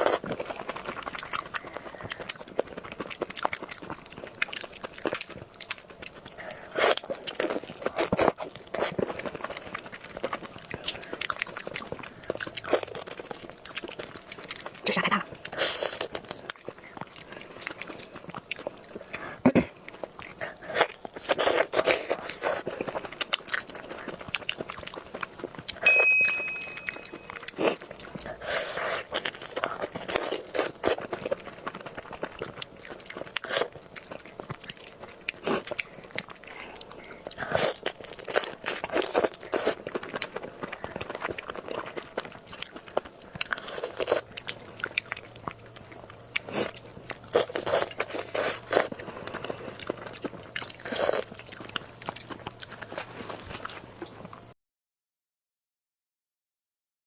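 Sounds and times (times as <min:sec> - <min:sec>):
crunchy chewing: 0:00.0 - 0:54.5.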